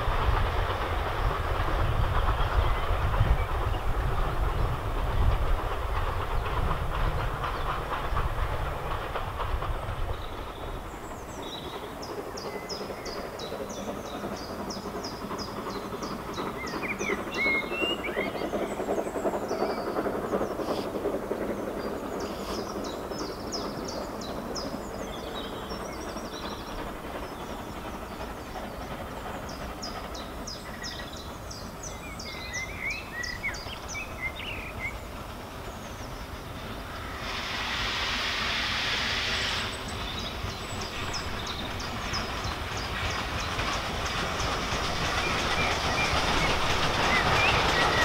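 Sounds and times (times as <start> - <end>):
distant steam locomotive rumble: 0.0 - 48.0
steam hiss: 0.0 - 48.0
songbirds trilling and chirping: 5.6 - 37.4, 39.0 - 48.0.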